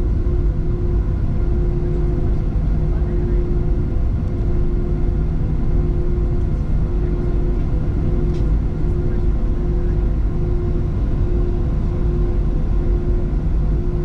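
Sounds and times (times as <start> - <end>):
airliner cabin rumble: 0.0 - 14.0
constant hum: 0.0 - 14.0.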